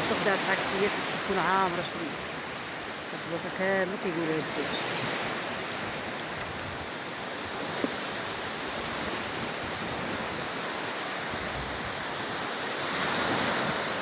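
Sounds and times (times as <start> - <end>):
sea surf washing on beach: 0.0 - 14.0.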